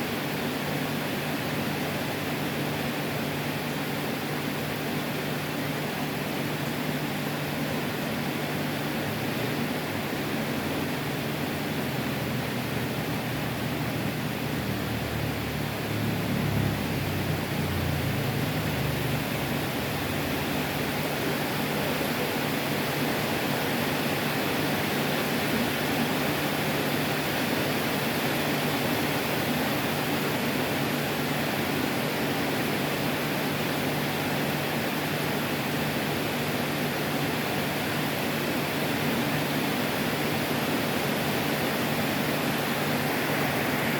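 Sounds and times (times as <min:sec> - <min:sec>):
heavy rain falling: 0:07.5 - 0:43.9.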